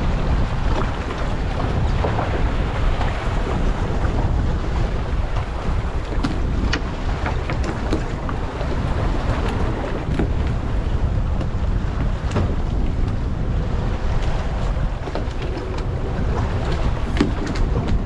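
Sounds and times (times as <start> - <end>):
sea washing against boat: 0.0 - 18.0
wind rumbling on microphone: 0.0 - 18.0.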